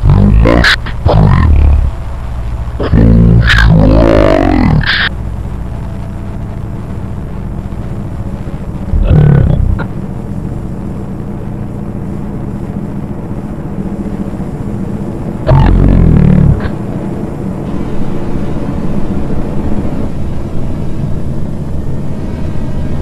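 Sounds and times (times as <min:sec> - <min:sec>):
distorted broadcast drone: 0:00.0 - 0:23.0.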